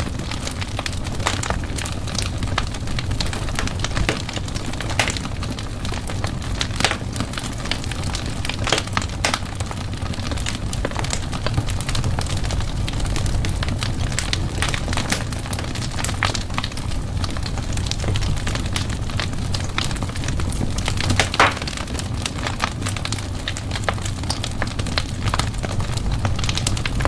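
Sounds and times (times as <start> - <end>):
fire crackles and pops: 0.0 - 27.0
low rumble of flame: 0.0 - 27.0.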